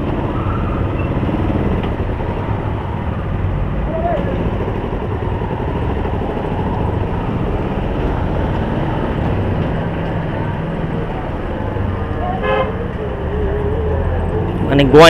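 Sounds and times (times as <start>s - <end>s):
road noise rumble: 0.0s - 15.0s.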